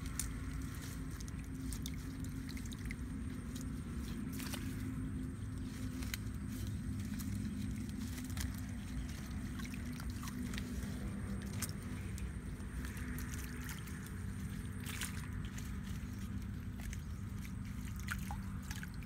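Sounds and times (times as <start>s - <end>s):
steady low hum: 0.0s - 19.0s
twigs knocking and crackling: 0.0s - 19.0s
water sloshing and dripping: 0.0s - 19.0s.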